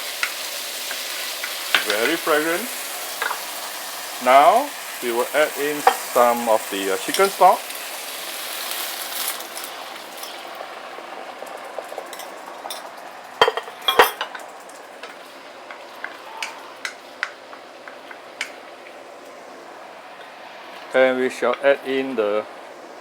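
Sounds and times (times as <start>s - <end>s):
stock sizzling in a hot wok: 0.0s - 23.0s.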